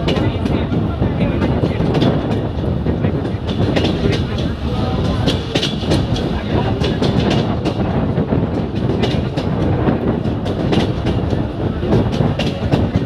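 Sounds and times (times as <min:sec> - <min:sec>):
train rumbling and rattling: 0:00.0 - 0:13.0
wheels clicking over rail joints: 0:00.0 - 0:13.0.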